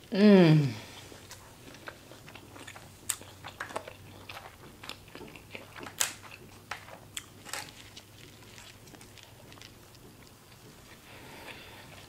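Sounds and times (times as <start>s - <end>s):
close chewing mouth smacks: 1.2s - 11.0s.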